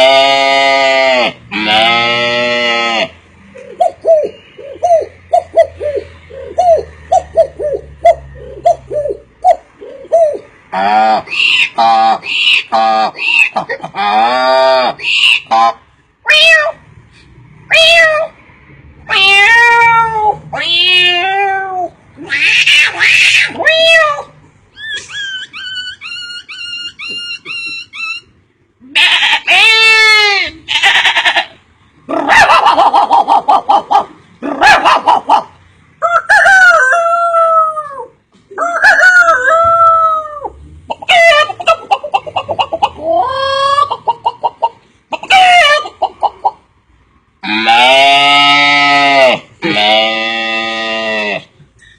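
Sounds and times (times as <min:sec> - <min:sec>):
man imitating animal calls: 0:00.0 - 0:16.8, 0:19.1 - 0:46.4, 0:47.4 - 0:51.9.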